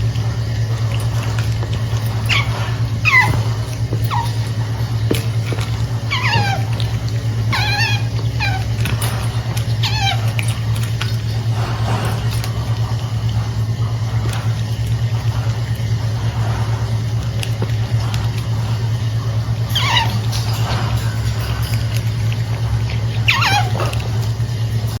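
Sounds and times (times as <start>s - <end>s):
otter squeaky chirps: 0.0s - 13.0s, 17.6s - 24.9s
steady low hum: 0.0s - 25.0s.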